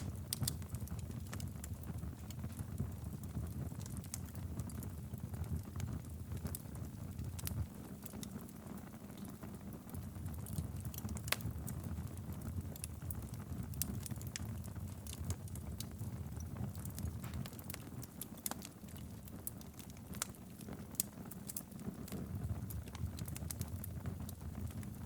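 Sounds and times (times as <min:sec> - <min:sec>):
fire crackles and pops: 0:00.0 - 0:25.0
fire flames rumbling: 0:00.0 - 0:25.0.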